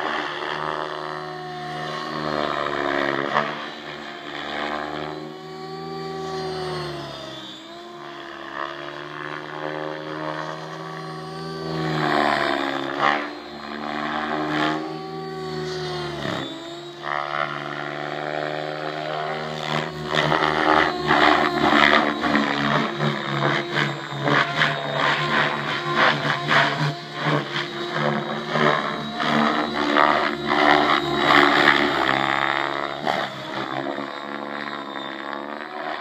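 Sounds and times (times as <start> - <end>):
rc helicopter rotor hum: 0.0 - 36.0.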